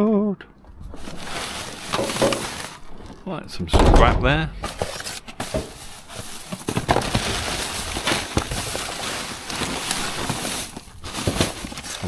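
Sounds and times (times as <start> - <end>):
plastic bags and paper rustling: 0.8 - 3.4, 4.6 - 12.0.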